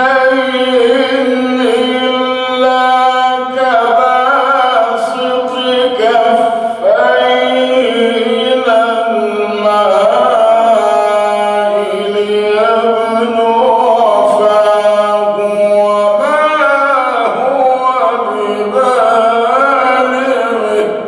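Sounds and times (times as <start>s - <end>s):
man reciting melodically: 0.0s - 21.0s.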